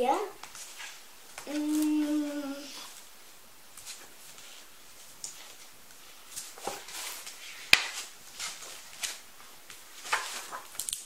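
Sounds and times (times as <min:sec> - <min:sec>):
book pages rustling: 0:00.4 - 0:11.0.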